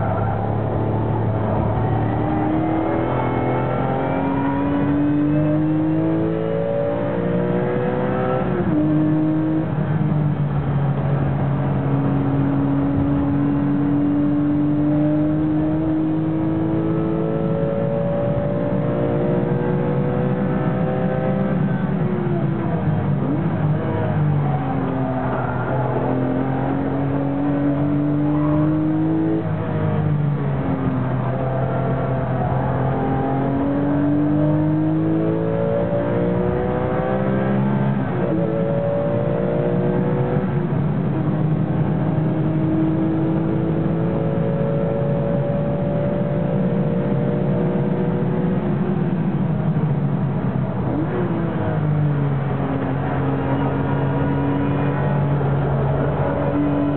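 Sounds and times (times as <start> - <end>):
car engine revving through gears: 0.0 - 56.9
road and tyre noise: 0.0 - 56.9.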